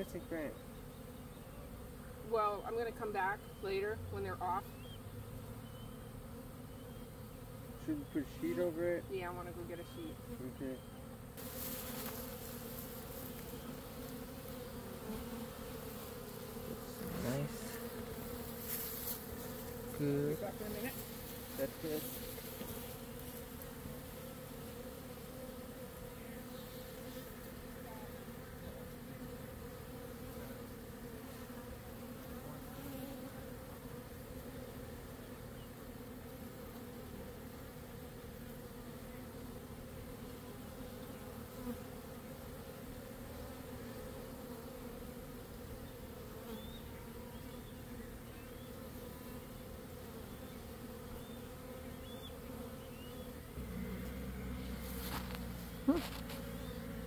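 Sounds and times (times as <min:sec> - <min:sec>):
bee swarm humming: 0:00.0 - 0:57.0.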